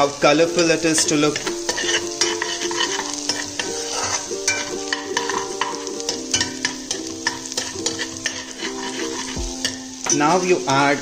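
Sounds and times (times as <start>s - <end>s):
garlic sizzling in butter: 0.0s - 11.0s
spoon clicking and scraping pan: 0.5s - 10.4s.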